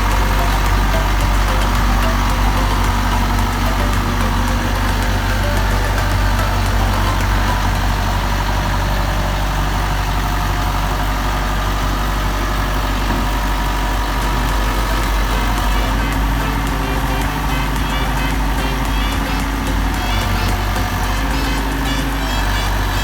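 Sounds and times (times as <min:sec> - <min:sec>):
heavy equipment engine idling: 0:00.0 - 0:23.0.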